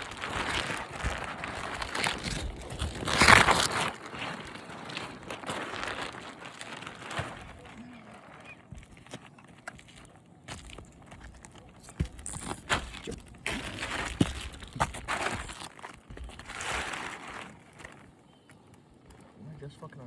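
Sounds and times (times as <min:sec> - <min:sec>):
roofing material crinkling and scraping: 0:00.0 - 0:20.0.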